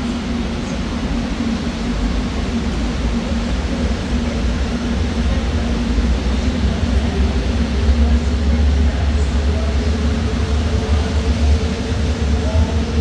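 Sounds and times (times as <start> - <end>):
train rushing rumble: 0.0 - 13.0.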